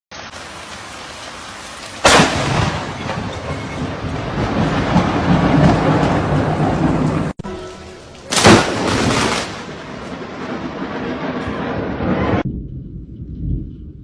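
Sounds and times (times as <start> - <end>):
steady rain: 0.1 - 12.2
thunder crack and rumble: 0.3 - 7.4, 8.1 - 14.0.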